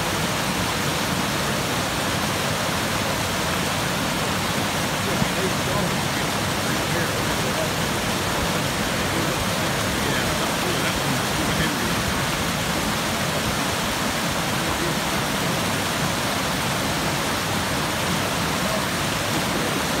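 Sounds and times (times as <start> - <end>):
water rushing over a dam: 0.0 - 20.0.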